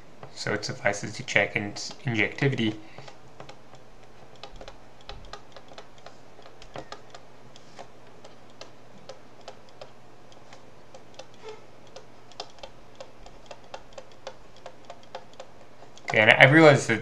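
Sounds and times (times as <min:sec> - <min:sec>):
faint steady hum: 0:00.0 - 0:17.0
stylus tapping on tablet screen: 0:01.8 - 0:16.2.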